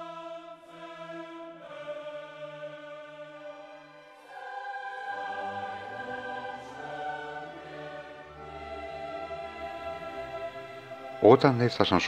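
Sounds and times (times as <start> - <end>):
choir singing held notes: 0.0 - 12.0.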